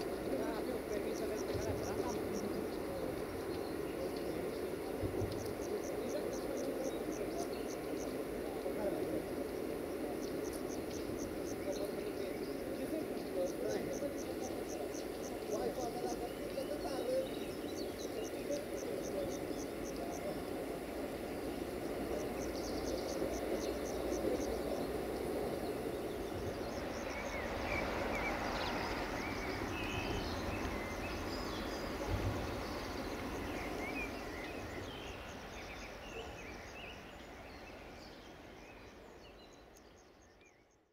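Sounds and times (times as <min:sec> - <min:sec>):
insects ticking: 0:00.0 - 0:40.8
low steady noise: 0:00.0 - 0:40.9
small birds chirping: 0:00.0 - 0:40.9.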